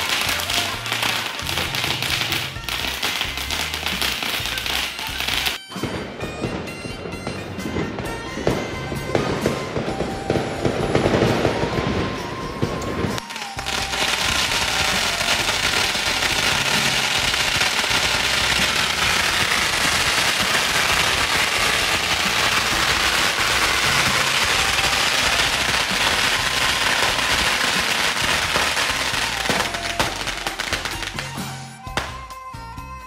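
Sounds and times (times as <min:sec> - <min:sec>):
firecrackers crackling: 0:00.0 - 0:32.7.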